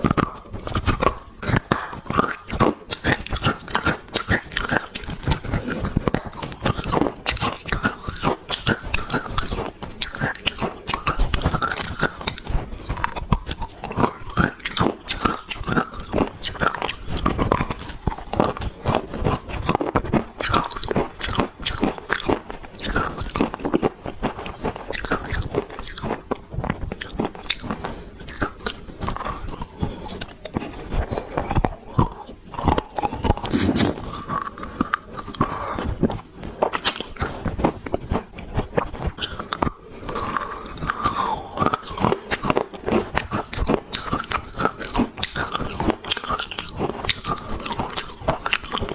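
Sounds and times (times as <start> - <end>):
dry clay being chewed: 0.0 - 48.9.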